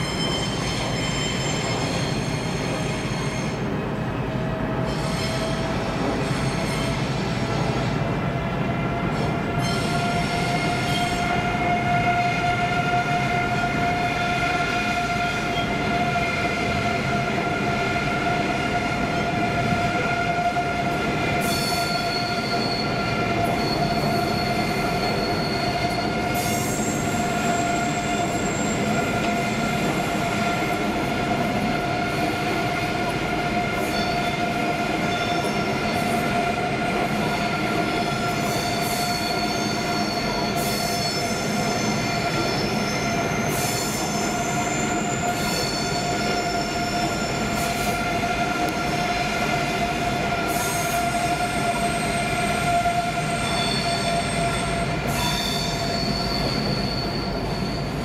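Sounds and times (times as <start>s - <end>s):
train wheels squealing: 0.0s - 3.8s, 4.8s - 8.1s, 9.1s - 58.0s.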